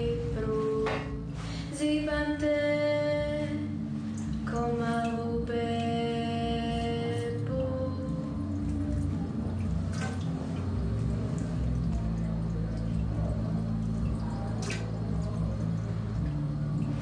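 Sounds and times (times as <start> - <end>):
soft film music: 0.0 - 17.0.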